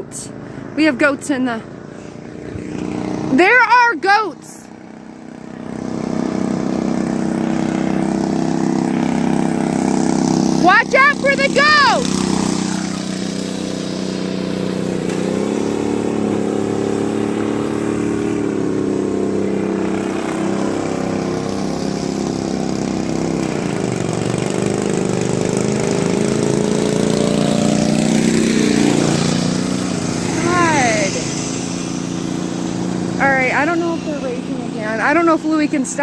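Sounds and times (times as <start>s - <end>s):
lawn mower engine running: 0.0s - 36.0s.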